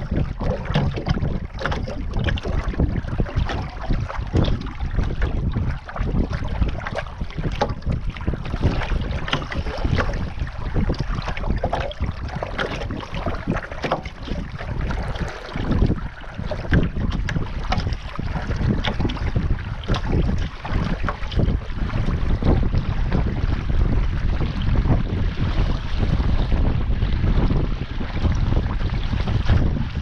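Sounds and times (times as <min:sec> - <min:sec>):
water lapping against hull: 0:00.0 - 0:30.0
wind buffeting microphone: 0:00.0 - 0:30.0.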